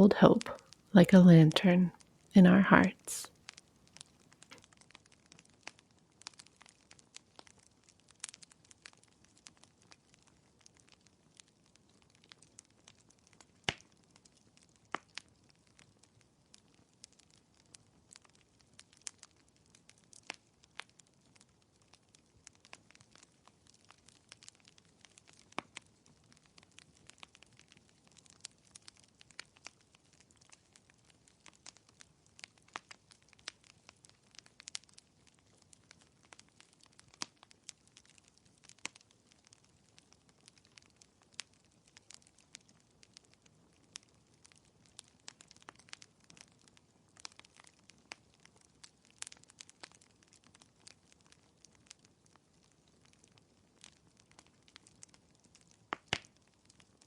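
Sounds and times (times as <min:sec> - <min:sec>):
wood fire crackling: 0:06.3 - 0:57.0.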